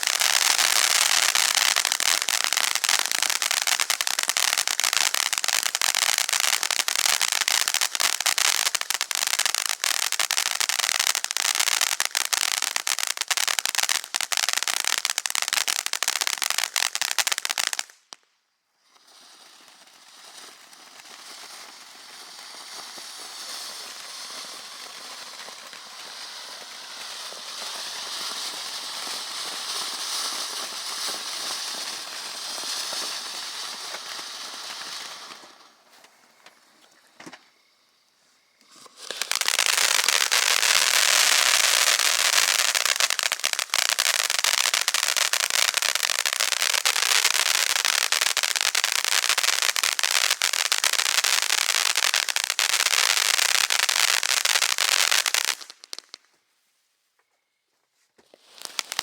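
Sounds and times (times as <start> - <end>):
firework crackling pops: 0.0 - 56.5, 58.2 - 59.0
steady crackling hiss: 0.0 - 59.0.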